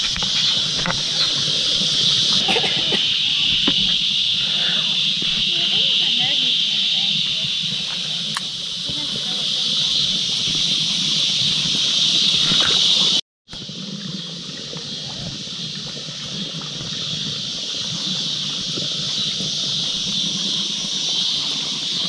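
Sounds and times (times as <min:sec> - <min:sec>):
insect chorus drone: 0:00.0 - 0:22.0
water trickling: 0:00.0 - 0:22.0.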